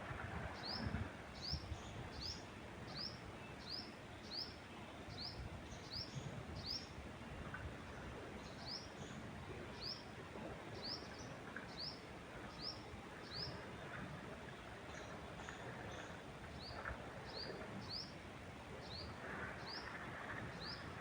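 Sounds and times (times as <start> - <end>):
wind through trees: 0.0 - 21.0.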